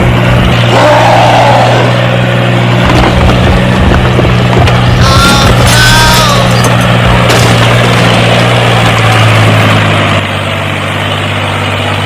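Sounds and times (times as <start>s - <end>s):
engine idling with rattle: 2.0s - 12.0s.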